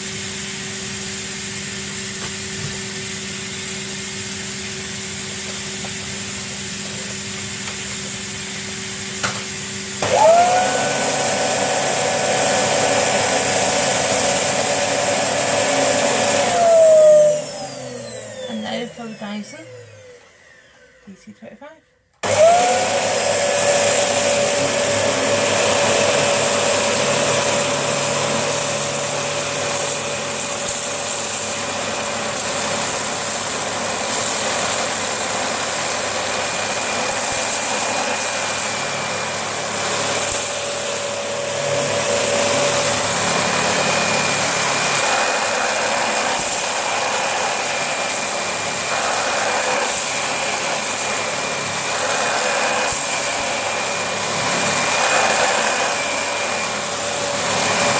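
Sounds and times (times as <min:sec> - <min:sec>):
vacuum cleaner motor whine: 0:00.0 - 0:57.9.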